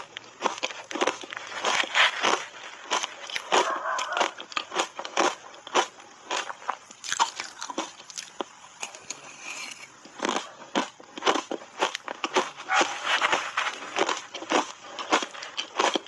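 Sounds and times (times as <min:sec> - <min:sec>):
shaved ice being chewed: 0:00.0 - 0:16.0.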